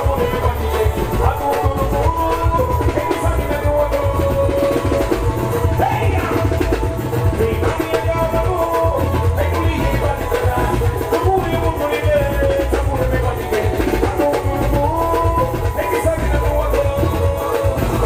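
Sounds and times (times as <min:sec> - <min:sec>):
hand drum fast roll: 0:00.0 - 0:18.0
heavy bass beat: 0:00.0 - 0:18.0.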